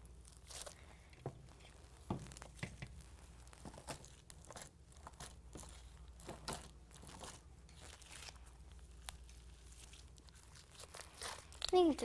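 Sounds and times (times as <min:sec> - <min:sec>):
slime squishing and crackling: 0:00.0 - 0:12.0.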